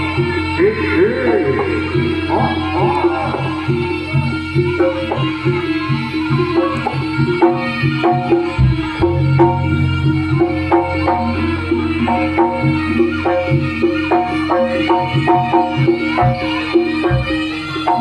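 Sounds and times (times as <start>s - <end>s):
low held tone: 0.0s - 14.9s
drums: 0.0s - 18.0s
struck metal gamelan notes: 0.0s - 18.0s.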